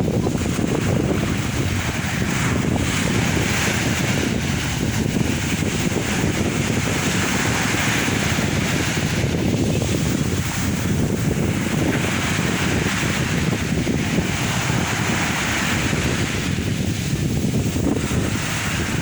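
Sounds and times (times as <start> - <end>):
sea waves breaking and washing: 0.0 - 19.0
wind buffeting the microphone: 0.0 - 19.0.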